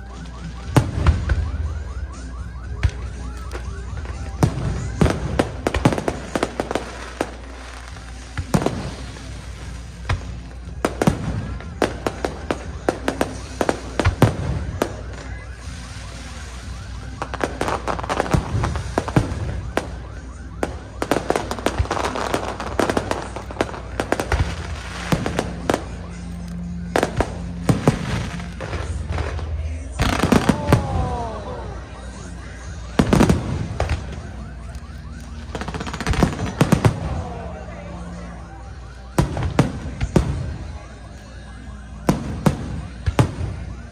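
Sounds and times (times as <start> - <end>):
fireworks bangs and crackling: 0.0 - 43.9
fireworks whistling: 0.0 - 43.9.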